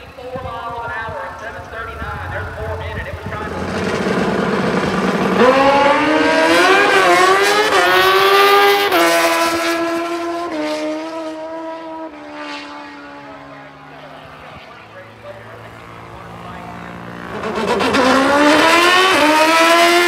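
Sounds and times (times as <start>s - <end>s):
motorcycle accelerating through gears: 0.0s - 20.0s.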